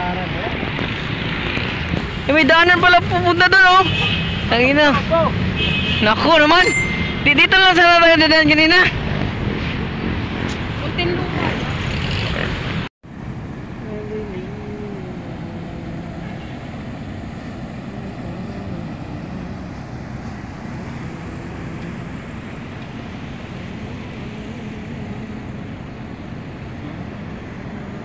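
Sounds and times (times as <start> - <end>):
distant traffic hum: 0.0 - 28.0.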